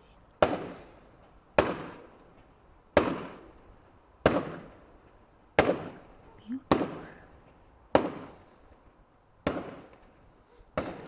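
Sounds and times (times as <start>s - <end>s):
distant fireworks bangs: 0.4s - 11.0s.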